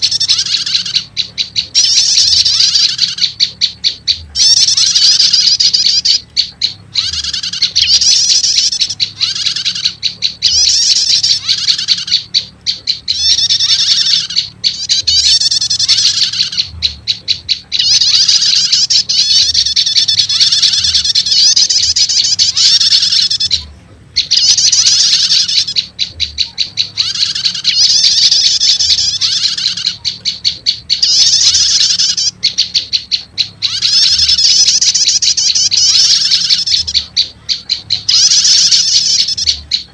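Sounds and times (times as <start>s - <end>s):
bird chattering trills: 0.0s - 39.9s
faint low hum: 0.0s - 39.9s.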